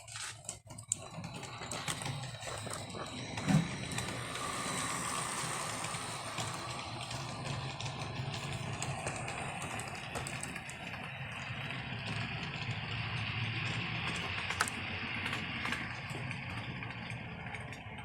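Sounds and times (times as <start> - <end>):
wheels clicking on track: 0.0 - 18.0
model train motor hum: 0.9 - 18.0.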